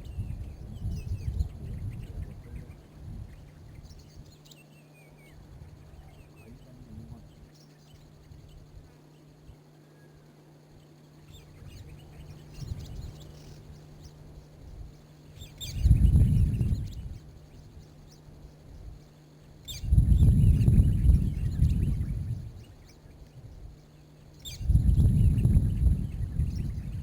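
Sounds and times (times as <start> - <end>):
faint bird chirps: 0.0 - 27.0
low hum: 0.0 - 27.0.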